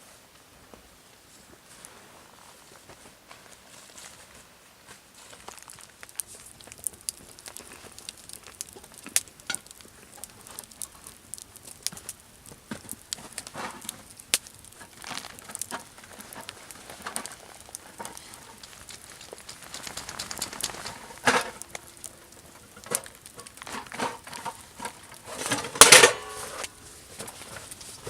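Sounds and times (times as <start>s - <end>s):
crackles and rustles: 0.0s - 28.0s.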